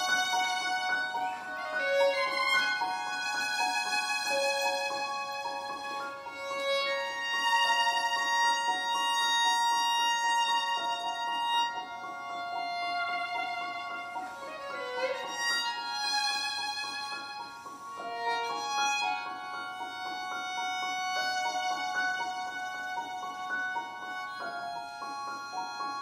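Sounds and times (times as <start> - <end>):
violin playing long held notes: 0.0 - 26.0.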